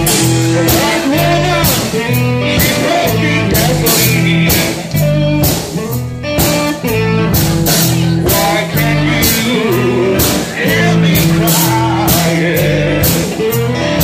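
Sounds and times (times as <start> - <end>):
blues guitar riff: 0.0 - 14.0
drum kit with cymbal strokes: 0.0 - 14.0.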